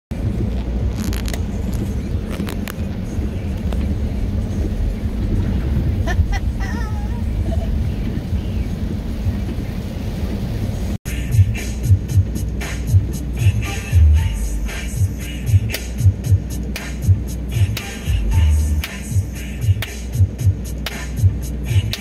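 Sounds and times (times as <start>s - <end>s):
car driving on wet road: 0.1s - 11.0s, 11.8s - 22.0s.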